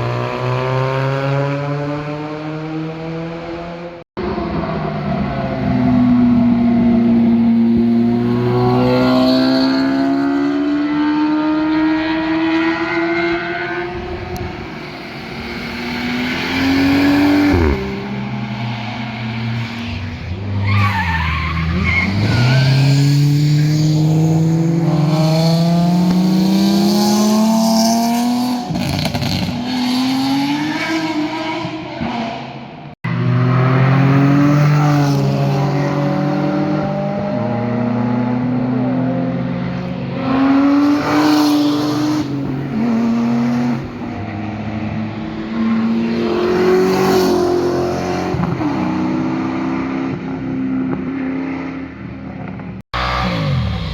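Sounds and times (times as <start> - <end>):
car engines accelerating hard: 0.0 - 53.9.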